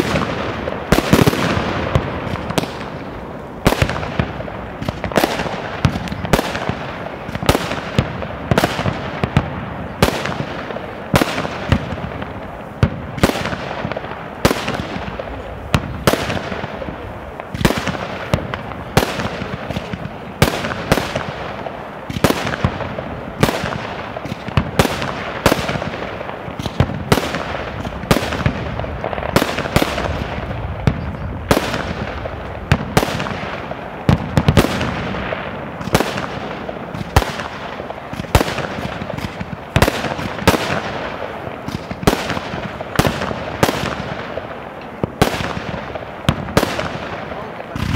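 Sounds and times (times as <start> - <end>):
fireworks bursting: 0.0 - 47.9.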